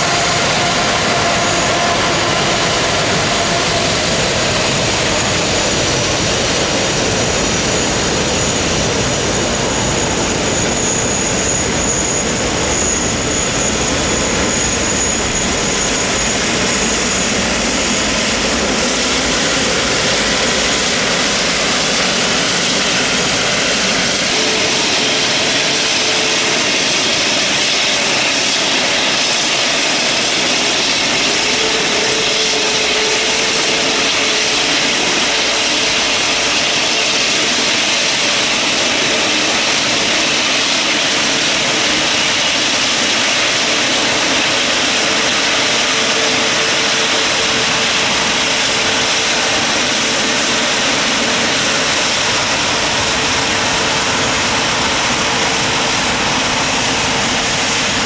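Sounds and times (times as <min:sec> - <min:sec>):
jet engines at taxi power: 0:00.0 - 0:58.0.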